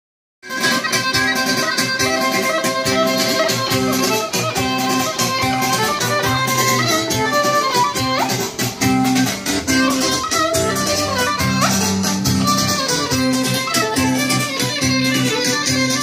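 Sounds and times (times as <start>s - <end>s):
folk dance music: 0.4s - 16.0s
strummed lute: 0.4s - 16.0s
violin melody: 0.4s - 16.0s.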